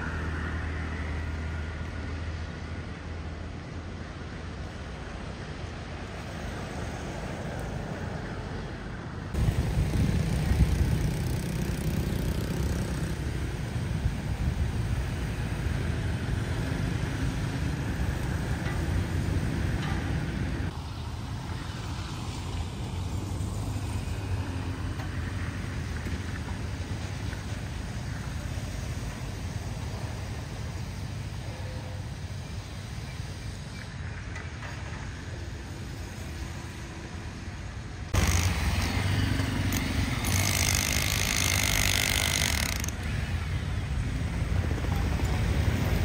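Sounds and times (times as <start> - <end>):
road traffic rumble: 0.0 - 46.0.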